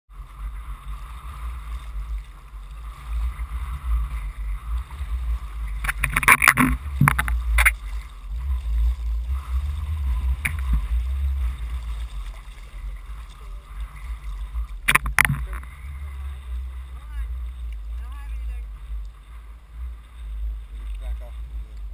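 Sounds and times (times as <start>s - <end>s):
water sloshing and splashing: 0.1s - 21.9s
wind on microphone: 0.3s - 21.9s.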